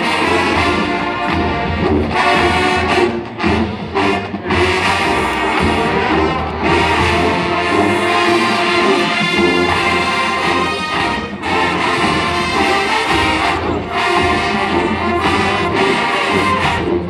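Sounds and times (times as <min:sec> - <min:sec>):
marching band brass chords: 0:00.0 - 0:17.0.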